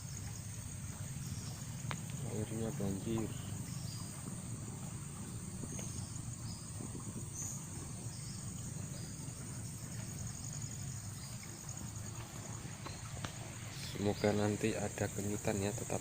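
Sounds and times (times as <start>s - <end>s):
steady low rumble: 0.0s - 13.5s
chorus of insects: 0.0s - 16.0s.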